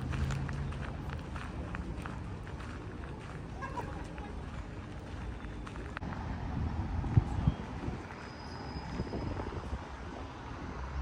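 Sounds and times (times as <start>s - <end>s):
traffic rumble: 0.0s - 11.0s
wind buffeting microphone: 0.0s - 11.0s.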